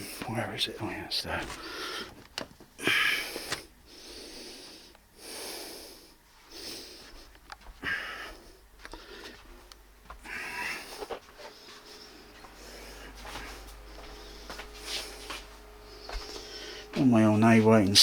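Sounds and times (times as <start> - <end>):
projector cooling fan hum: 0.0 - 18.0
heavy breathing: 1.3 - 17.0.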